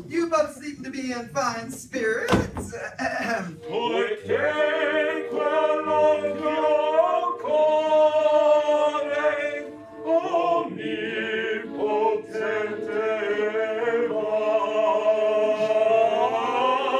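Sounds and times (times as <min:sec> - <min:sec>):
operatic voices singing in harmony: 0:03.2 - 0:16.9.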